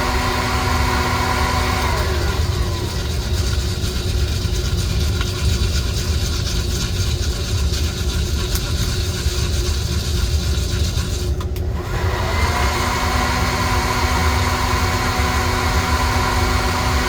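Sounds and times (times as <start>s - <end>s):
motor and fan hum: 0.0s - 17.0s.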